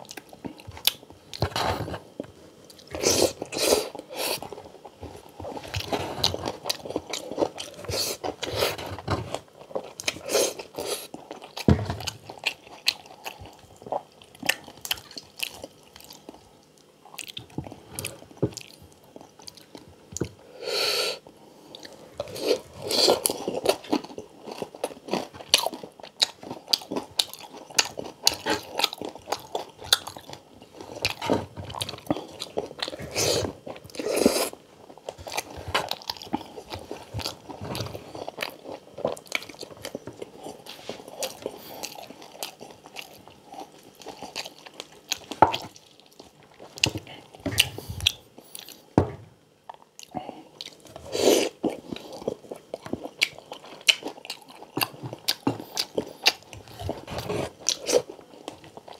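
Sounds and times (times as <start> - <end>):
chewing and crunching food: 0.0 - 20.4, 21.3 - 49.0, 49.6 - 58.9.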